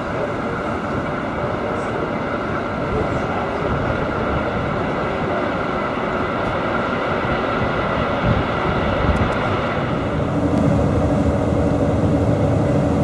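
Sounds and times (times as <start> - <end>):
boat drone: 0.0 - 13.0
distant freight train: 0.0 - 13.0.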